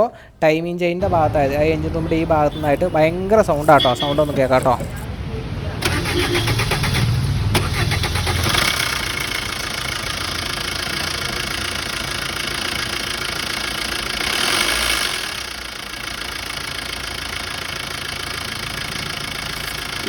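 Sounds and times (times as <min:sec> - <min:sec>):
diesel engine idling: 0:01.0 - 0:20.0.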